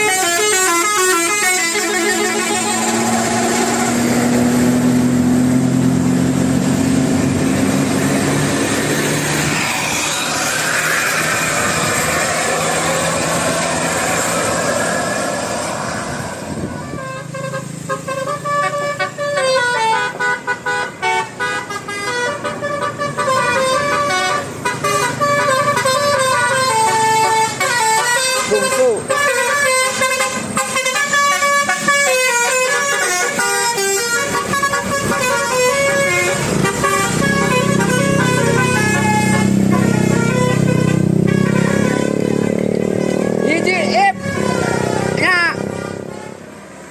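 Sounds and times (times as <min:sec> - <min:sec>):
multi-tone musical bus horn: 0:00.0 - 0:46.7.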